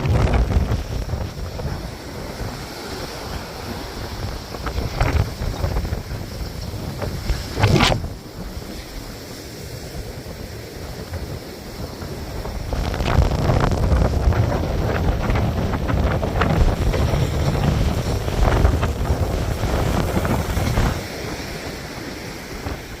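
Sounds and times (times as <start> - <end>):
ocean waves breaking: 0.0 - 23.0
wind buffeting microphone: 0.0 - 23.0.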